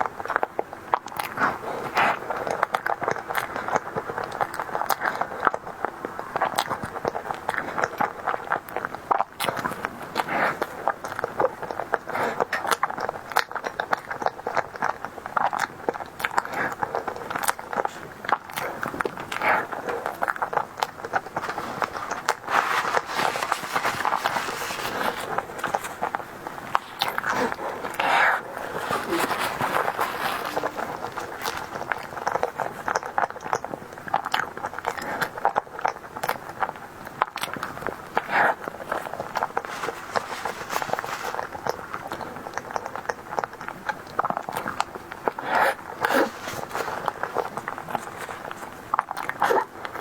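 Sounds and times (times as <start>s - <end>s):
chewing and mouth smacks: 0.0s - 50.0s.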